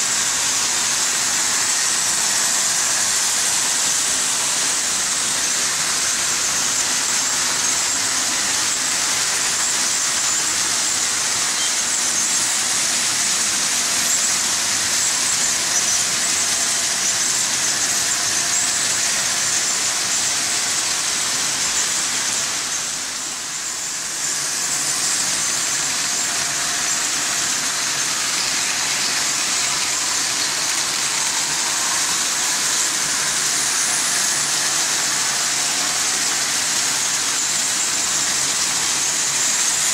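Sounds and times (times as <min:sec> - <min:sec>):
model train wheels rattling on rails: 0:00.0 - 0:39.9.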